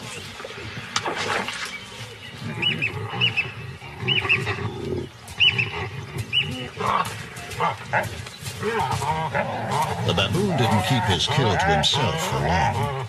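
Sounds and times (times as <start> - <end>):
baboons growling and grunting: 2.1 - 13.0.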